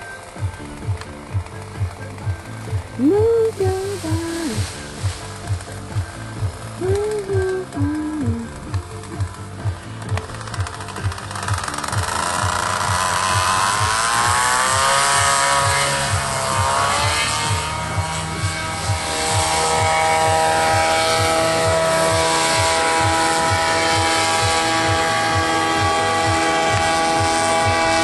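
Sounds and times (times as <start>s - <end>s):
paramotor engine and propeller: 0.0s - 28.0s.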